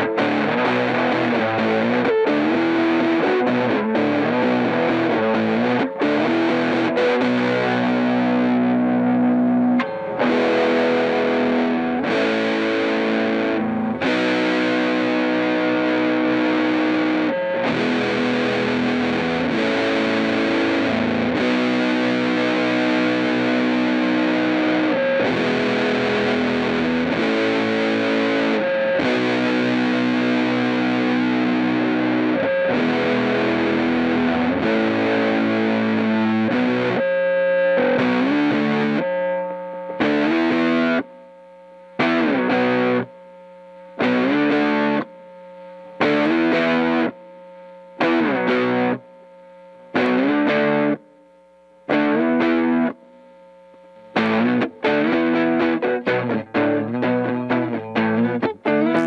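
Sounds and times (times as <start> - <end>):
distorted electric guitar: 0.0 - 59.0.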